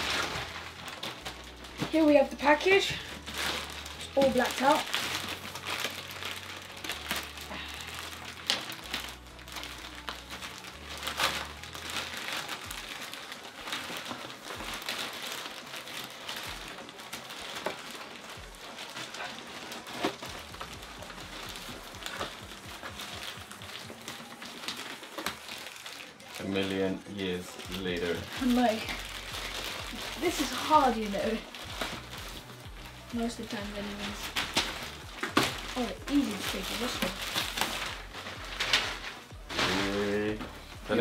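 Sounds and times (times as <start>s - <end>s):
plastic bag crinkling and tearing: 0.0s - 41.0s.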